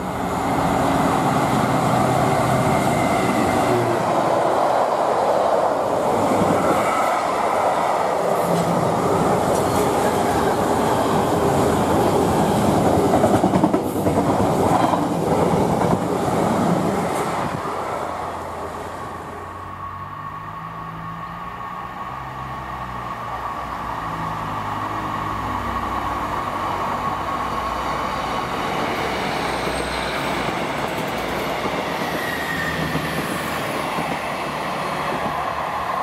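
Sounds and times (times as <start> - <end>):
train wheels rumbling on rails: 0.0 - 18.8, 24.5 - 36.0.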